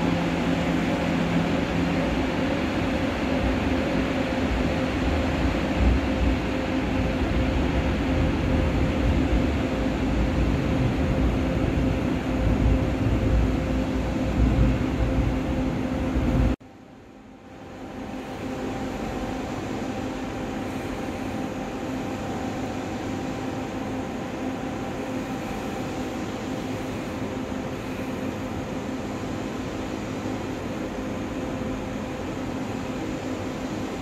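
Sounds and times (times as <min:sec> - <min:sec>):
ventilation hum and hiss: 0:00.0 - 0:34.0.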